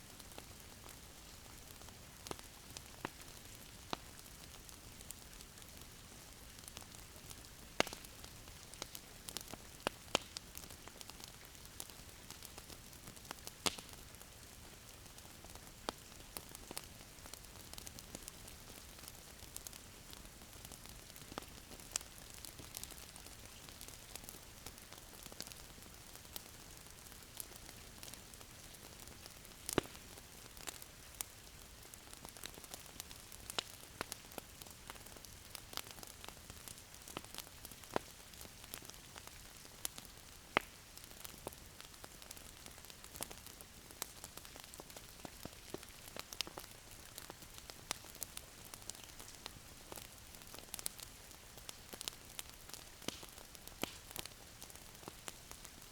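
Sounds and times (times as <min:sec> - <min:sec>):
wood fire crackling and popping: 0:00.1 - 0:55.9.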